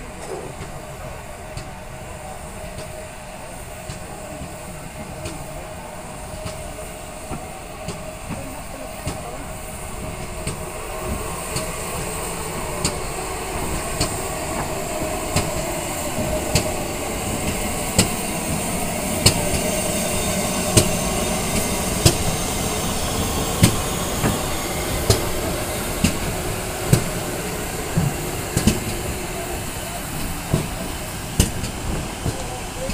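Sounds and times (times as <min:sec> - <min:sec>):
train rumbling: 0:00.0 - 0:32.9
train wheels clicking over rail joints: 0:00.0 - 0:32.9.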